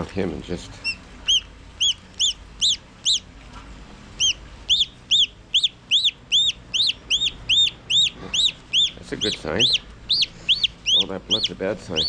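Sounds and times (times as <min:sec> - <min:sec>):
turkey chick peeping: 0:00.8 - 0:03.4, 0:04.2 - 0:12.0.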